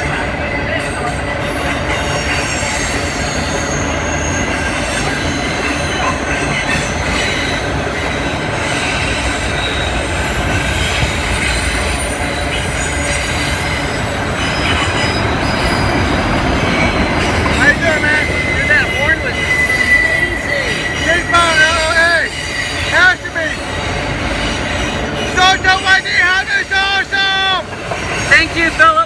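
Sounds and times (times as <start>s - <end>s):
high-pitched wheel squeal: 1.5s - 28.4s.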